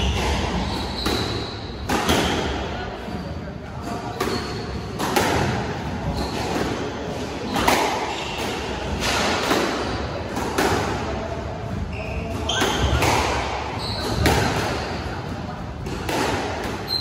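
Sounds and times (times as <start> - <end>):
squash ball struck by rackets: 0.0 - 3.2, 3.8 - 17.0.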